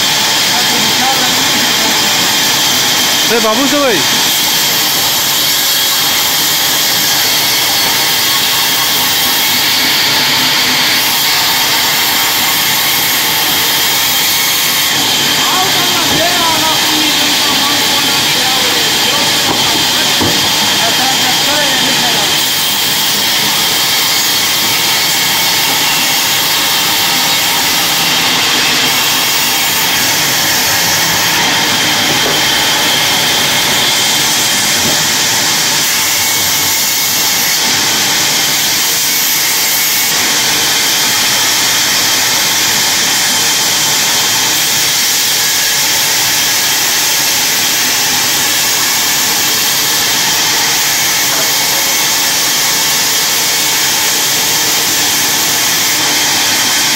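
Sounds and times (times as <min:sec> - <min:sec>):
bandsaw sawing through log: 0:00.0 - 0:56.9.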